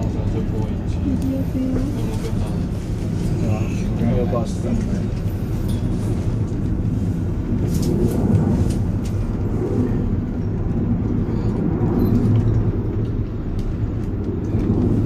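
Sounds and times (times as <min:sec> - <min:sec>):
cable car gondola rumble: 0:00.0 - 0:15.0.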